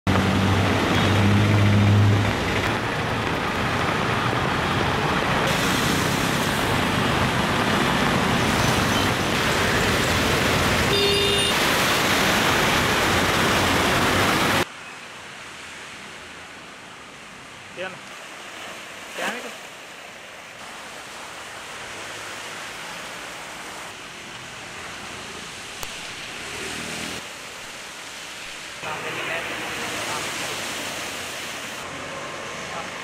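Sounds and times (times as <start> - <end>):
rain hissing: 0.1 - 16.6, 17.3 - 32.0
vehicles driving through water: 0.1 - 33.0.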